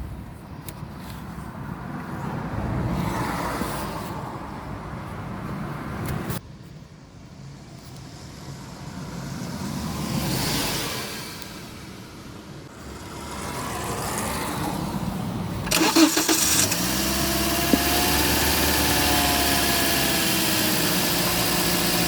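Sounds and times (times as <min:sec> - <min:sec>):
cars passing: 0:00.9 - 0:06.4, 0:08.2 - 0:22.0.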